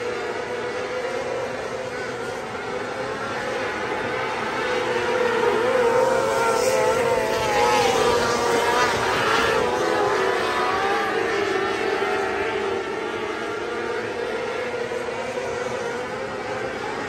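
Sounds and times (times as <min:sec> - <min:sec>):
racing cars high-revving engines: 0:00.0 - 0:17.0.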